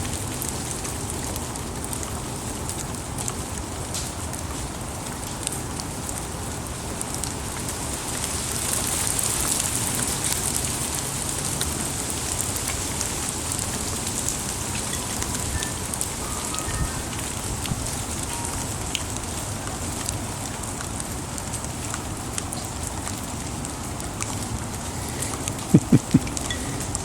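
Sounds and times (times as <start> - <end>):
rain shower: 0.0 - 27.0.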